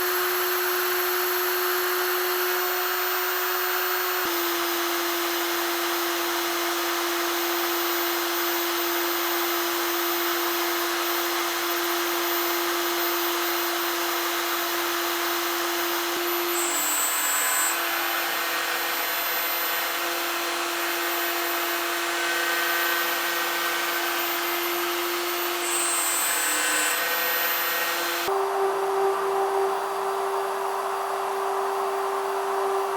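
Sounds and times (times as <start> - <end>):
router spindle milling: 0.0 - 28.6.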